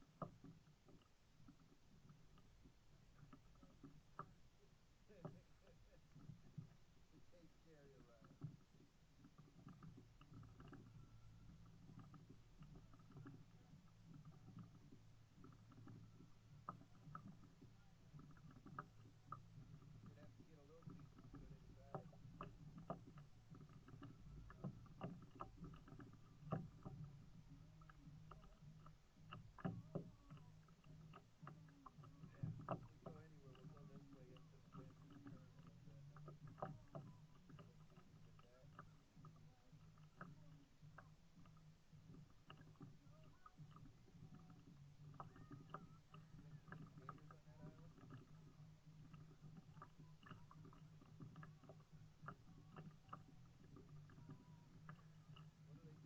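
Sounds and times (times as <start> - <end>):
kayak paddle knocks and splashes: 0.0 - 56.0
low steady hum: 0.0 - 56.0.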